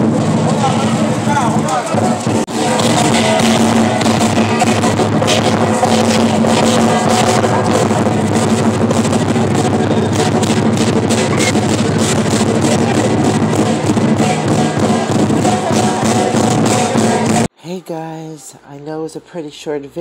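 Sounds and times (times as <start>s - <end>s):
background music with drum beat: 0.0s - 17.5s.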